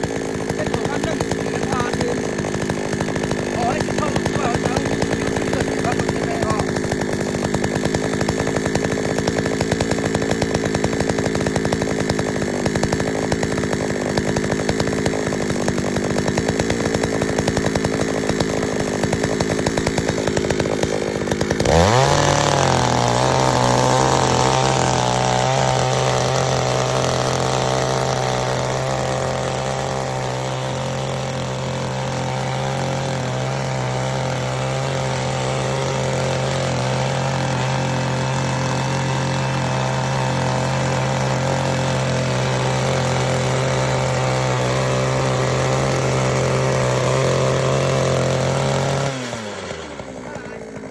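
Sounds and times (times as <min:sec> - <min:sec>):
small two-stroke engine running: 0:00.0 - 0:50.9.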